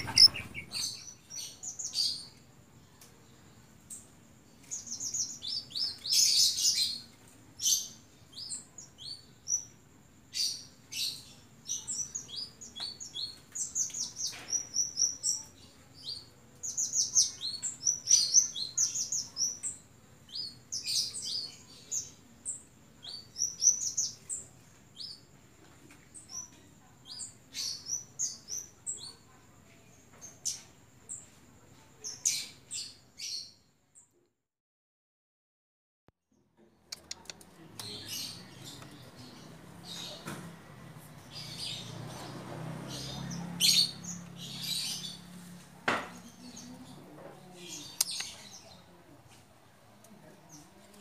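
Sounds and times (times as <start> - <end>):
songbird chirping and twittering: 0.0 - 34.2, 36.6 - 51.0.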